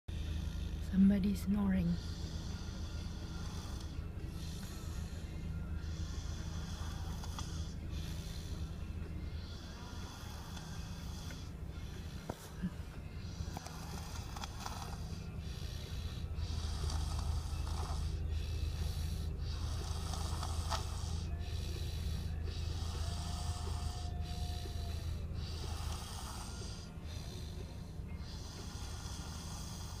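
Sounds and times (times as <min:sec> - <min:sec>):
person snoring: 0:00.1 - 0:01.0, 0:01.9 - 0:30.0
low hum: 0:00.1 - 0:30.0.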